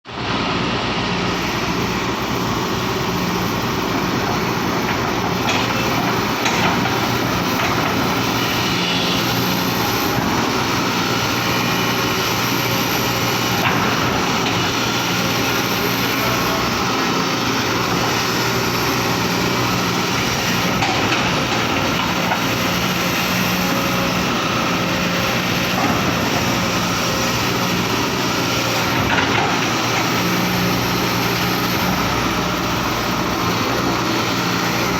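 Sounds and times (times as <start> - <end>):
diesel engine droning: 0.2 - 34.9.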